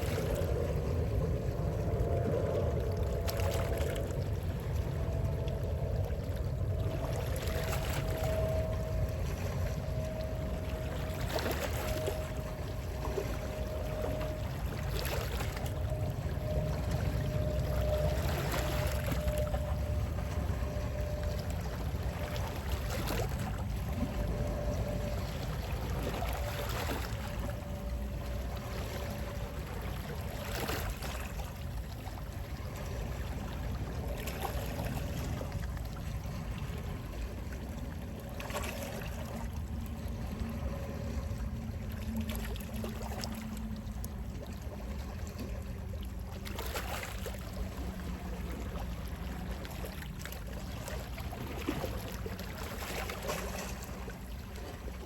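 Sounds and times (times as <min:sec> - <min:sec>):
sea waves lapping: 0:00.0 - 0:55.0.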